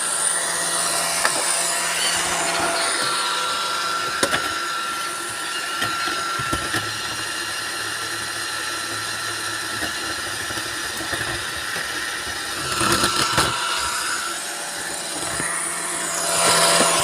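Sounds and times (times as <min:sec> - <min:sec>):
robot vacuums whirring: 0:00.0 - 0:17.0.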